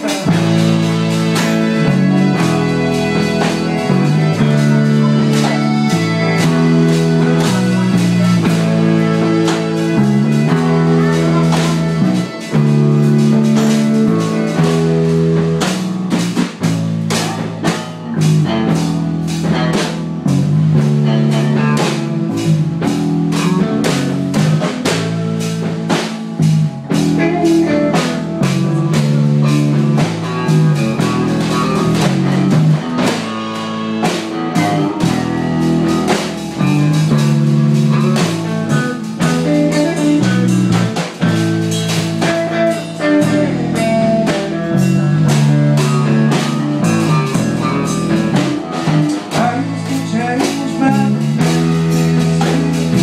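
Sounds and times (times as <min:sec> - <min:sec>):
blues-rock song: 0:00.0 - 0:53.0.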